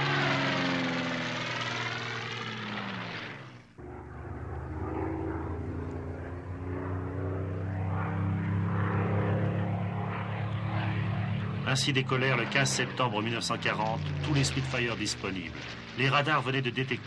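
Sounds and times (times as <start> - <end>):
airplane piston engine flyby: 0.0 - 17.0.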